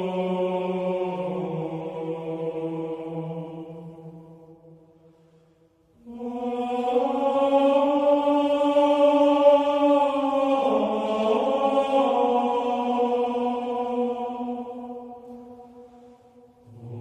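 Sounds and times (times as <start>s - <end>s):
choir-like held chords: 0.0s - 17.0s.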